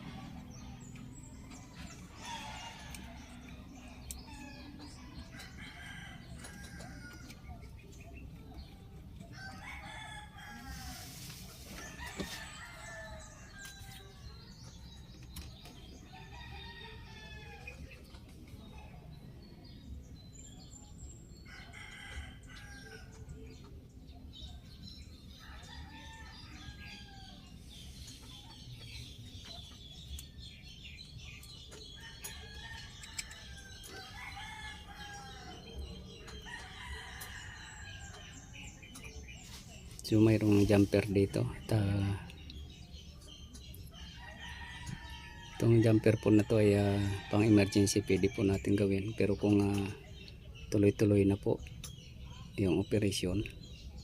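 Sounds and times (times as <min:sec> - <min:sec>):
roosters crowing: 0:00.0 - 0:18.1, 0:19.6 - 0:50.9.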